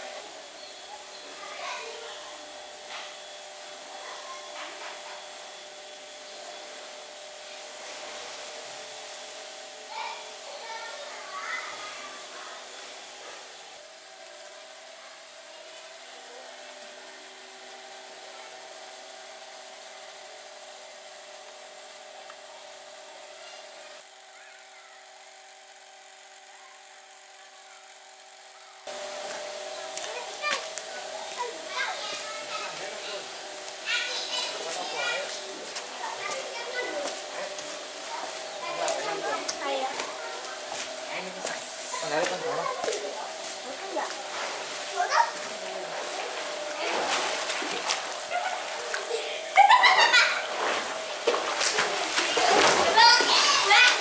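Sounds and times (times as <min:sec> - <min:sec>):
faint hum: 0:00.0 - 0:54.0.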